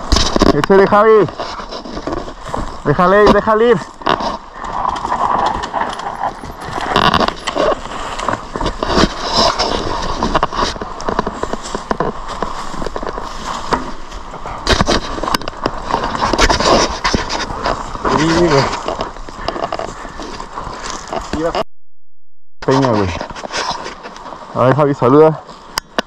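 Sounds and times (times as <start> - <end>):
bike clicks and rattles: 0.0 - 21.5
bike tyres crunching on dirt and leaves: 0.0 - 21.6, 22.7 - 26.0.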